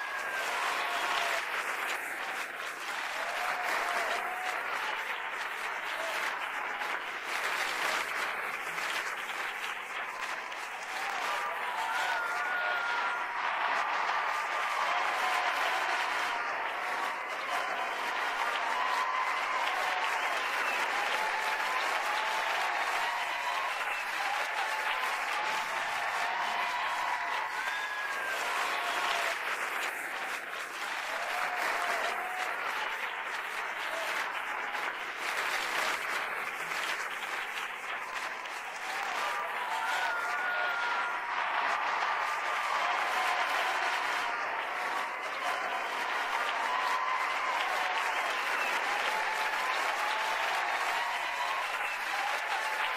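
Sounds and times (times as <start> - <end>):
audience cheering and whooping: 0.0 - 52.9
audience clapping: 0.0 - 52.9.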